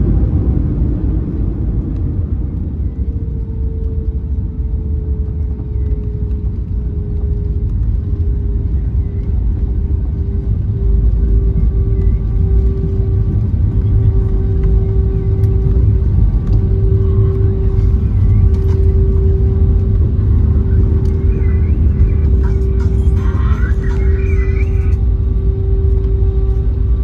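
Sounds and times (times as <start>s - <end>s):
aircraft cabin low rumble: 0.0s - 27.0s
jet engines humming: 0.0s - 27.0s.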